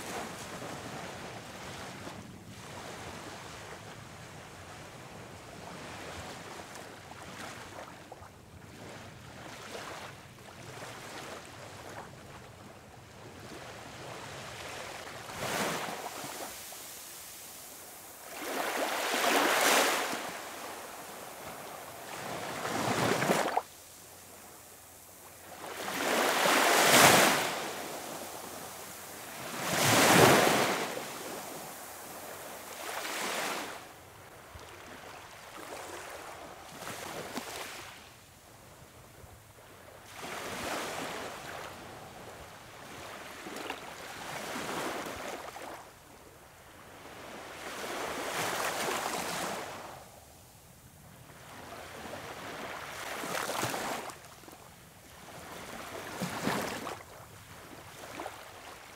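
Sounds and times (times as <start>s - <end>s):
small waves washing on sand: 0.0s - 38.3s, 40.0s - 46.0s, 46.7s - 50.1s, 51.2s - 58.9s.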